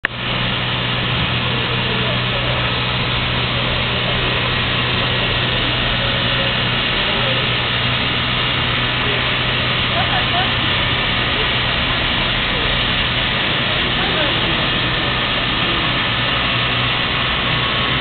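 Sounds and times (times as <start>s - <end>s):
steam jet hissing: 0.1s - 18.0s.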